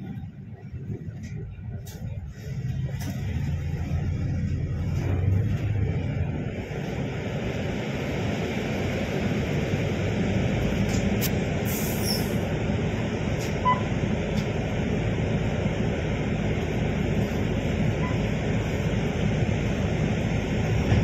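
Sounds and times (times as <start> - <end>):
moving vehicle rumble: 0.0 - 21.0.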